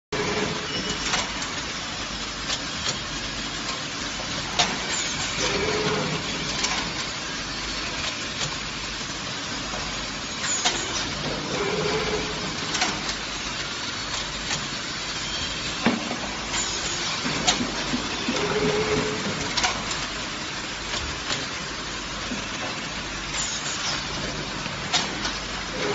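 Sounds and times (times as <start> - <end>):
bag-filling machine running: 0.1 - 25.9.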